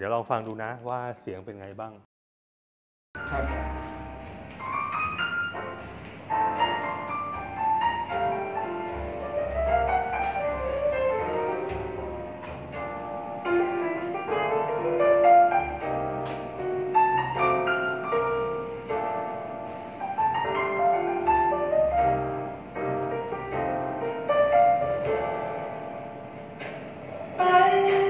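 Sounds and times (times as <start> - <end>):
piano music through speakers: 3.2 - 28.0.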